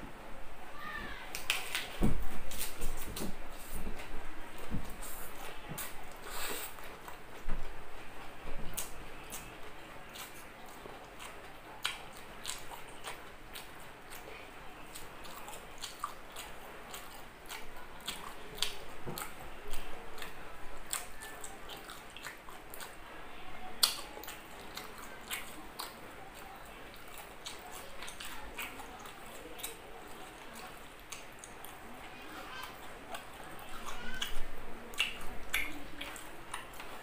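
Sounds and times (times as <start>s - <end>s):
person chewing food: 1.3s - 23.0s, 23.6s - 37.0s.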